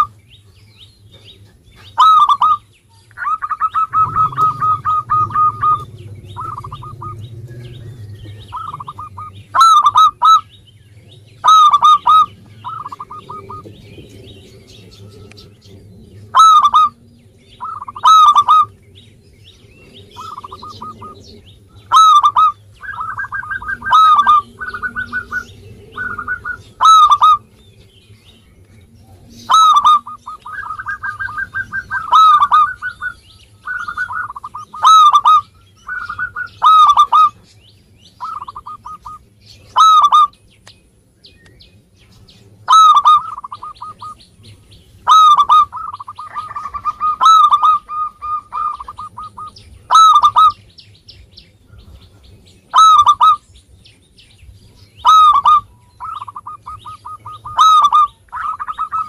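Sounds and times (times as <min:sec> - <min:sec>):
dove cooing: 0:00.0 - 0:00.2, 0:01.0 - 0:40.4, 0:42.4 - 0:50.7, 0:51.8 - 0:53.4, 0:54.9 - 0:59.0.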